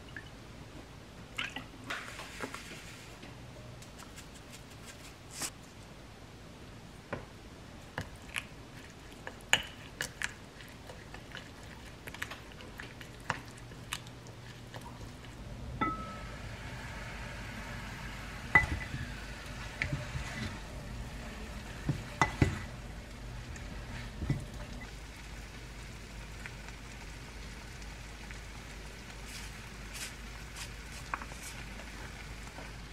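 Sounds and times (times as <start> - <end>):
faint hiss and low hum: 0.0 - 32.9.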